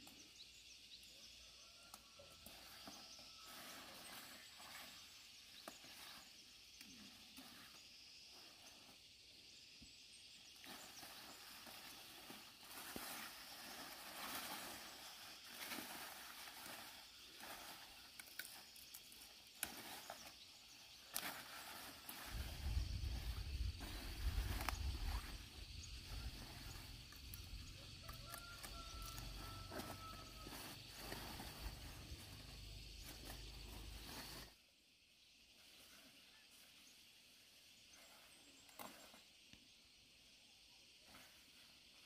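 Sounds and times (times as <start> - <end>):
faint outdoor ambience: 0.0 - 42.0.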